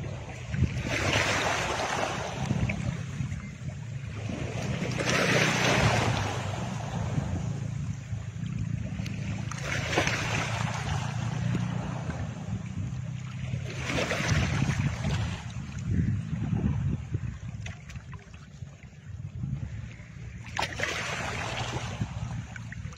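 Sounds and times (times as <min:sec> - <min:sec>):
surf-like whooshes: 0:00.0 - 0:17.6, 0:19.9 - 0:22.9
low droning hum: 0:00.0 - 0:22.9.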